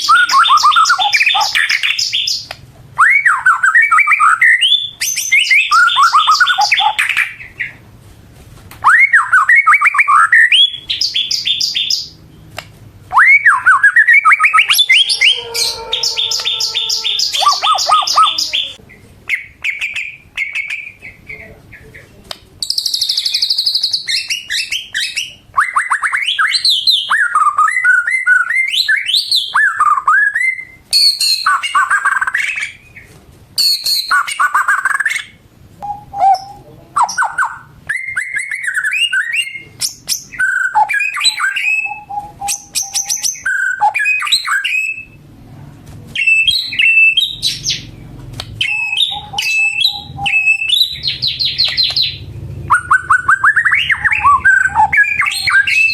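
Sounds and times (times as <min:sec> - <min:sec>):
songbird whistling and trilling: 0:00.0 - 0:07.7, 0:08.8 - 0:12.2, 0:13.1 - 0:21.2, 0:22.6 - 0:33.0, 0:33.6 - 0:45.2, 0:46.2 - 0:47.9, 0:48.6 - 0:55.9.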